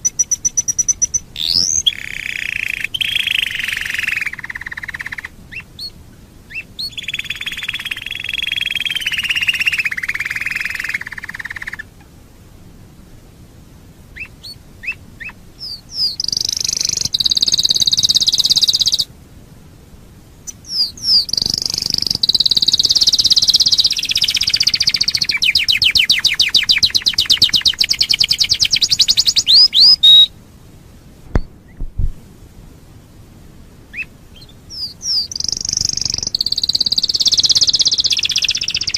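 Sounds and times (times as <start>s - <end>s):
canary singing: 0.0s - 11.9s, 14.1s - 19.1s, 20.4s - 30.3s, 33.9s - 38.9s.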